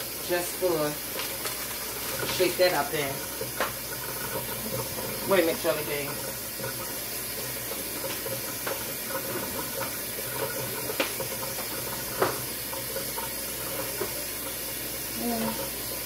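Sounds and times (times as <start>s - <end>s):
faucet running into tub: 0.0s - 16.0s.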